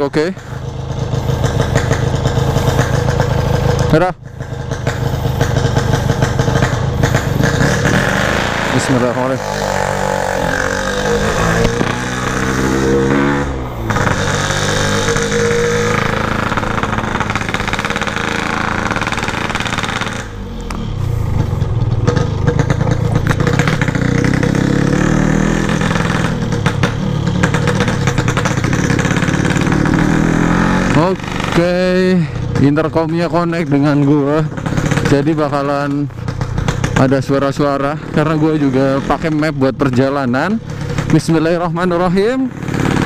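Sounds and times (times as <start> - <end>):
two-stroke motorcycle engine running: 0.0 - 43.0.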